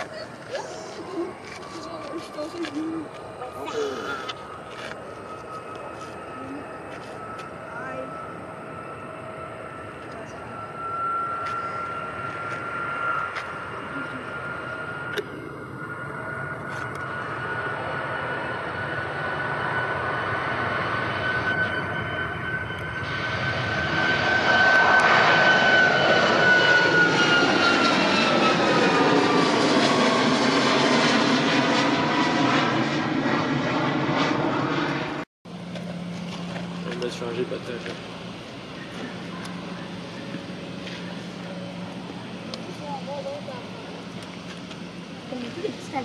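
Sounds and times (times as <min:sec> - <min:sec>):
jet airliner passing: 0:00.0 - 0:46.0.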